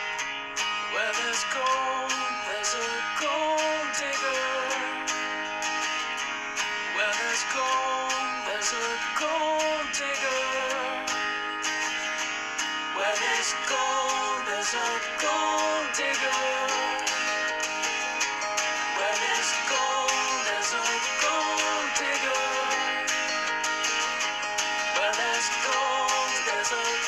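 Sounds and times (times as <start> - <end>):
guitar melody: 0.0 - 27.0.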